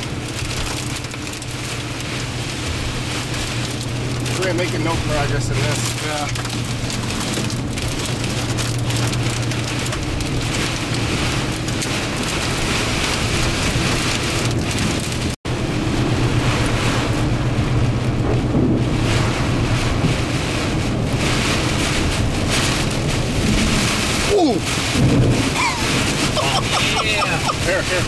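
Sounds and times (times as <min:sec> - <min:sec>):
heavy rain on car windshield: 0:00.0 - 0:28.0
vehicle low drone: 0:00.0 - 0:28.0.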